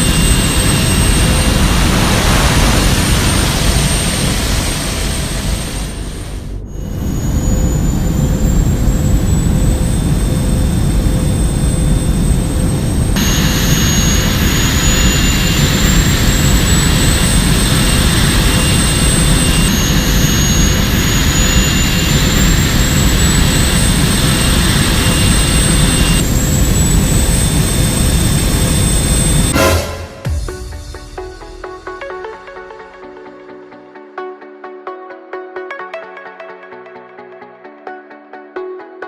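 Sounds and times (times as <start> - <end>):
engine roaring with high whine: 0.0 - 32.4.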